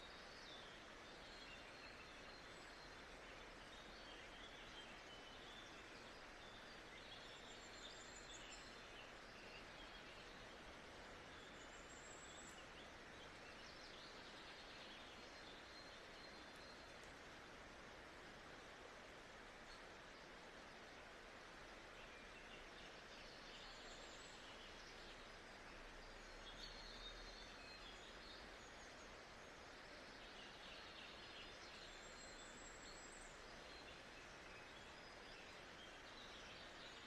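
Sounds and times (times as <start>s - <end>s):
soft noise ambience: 0.0s - 37.0s.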